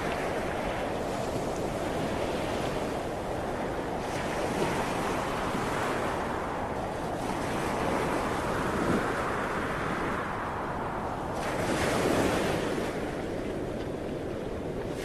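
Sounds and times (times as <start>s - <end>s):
sea waves breaking ashore: 0.0s - 15.0s
wind buffeting microphone: 0.0s - 15.0s.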